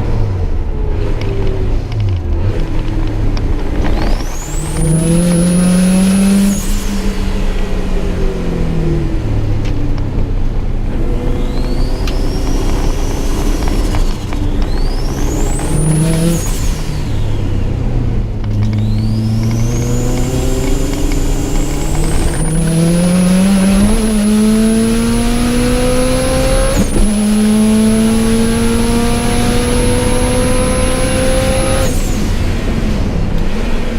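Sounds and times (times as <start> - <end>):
car engine accelerating: 0.0 - 33.9
high whine: 0.0 - 33.9.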